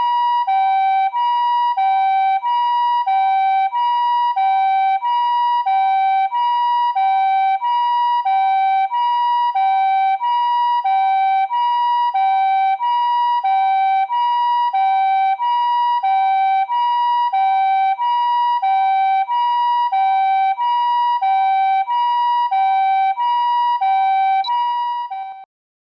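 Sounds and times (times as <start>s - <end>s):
two-tone ambulance siren: 0.0s - 25.5s.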